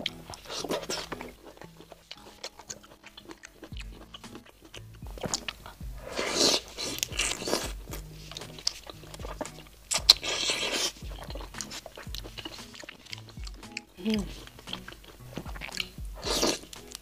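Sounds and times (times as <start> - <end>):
chewing a shell-on prawn: 0.0 - 17.0
clicky mouth sounds: 0.0 - 17.0.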